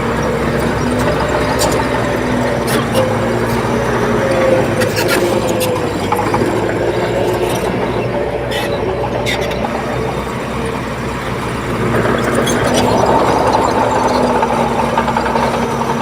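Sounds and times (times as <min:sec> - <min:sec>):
bulldozer diesel engine under load: 0:00.0 - 0:16.0
crawler tracks clanking and squealing: 0:00.0 - 0:16.0.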